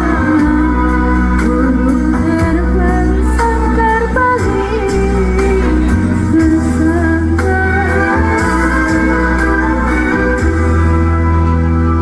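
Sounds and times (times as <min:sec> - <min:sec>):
woman singing into a microphone: 0:00.0 - 0:10.5
electronic keyboard accompaniment: 0:00.0 - 0:12.0.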